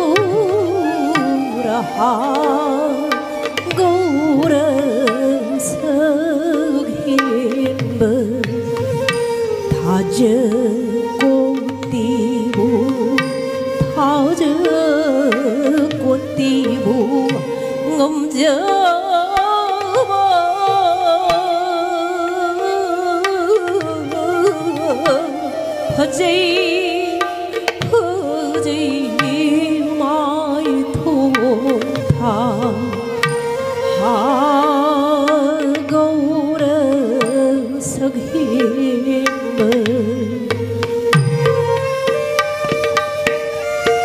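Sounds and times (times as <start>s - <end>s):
flute: 0.0s - 7.8s, 8.4s - 44.0s
hand drum: 0.0s - 44.0s
violin: 0.0s - 44.0s
woman singing: 0.0s - 44.0s.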